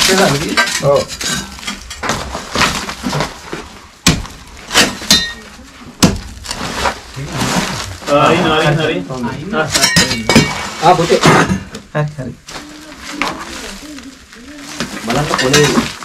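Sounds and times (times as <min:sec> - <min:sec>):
metal hoe scraping debris: 0:00.0 - 0:11.7, 0:12.6 - 0:16.0
rustling and crackling debris: 0:00.0 - 0:16.0.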